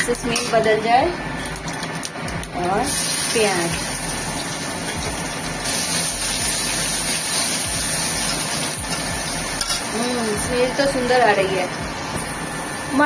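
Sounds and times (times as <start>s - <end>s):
onions sizzling in hot oil: 0.1s - 13.0s.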